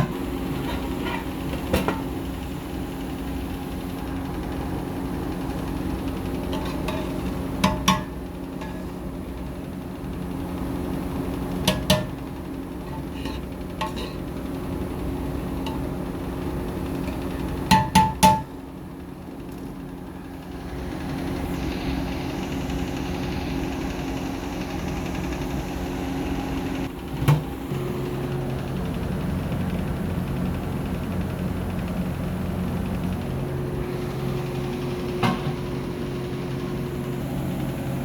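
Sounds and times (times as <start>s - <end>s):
low kitchen hum: 0.0s - 38.0s.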